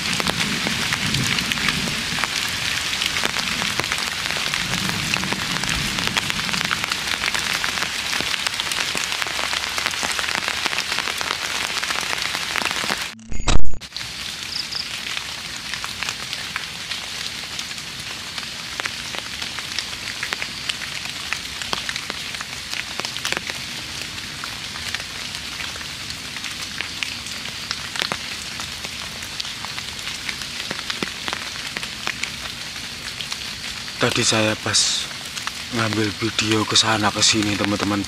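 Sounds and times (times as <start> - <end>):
light rain hiss: 0.0 - 13.2, 13.8 - 38.0
raindrops ticking: 0.0 - 13.2, 13.8 - 38.0.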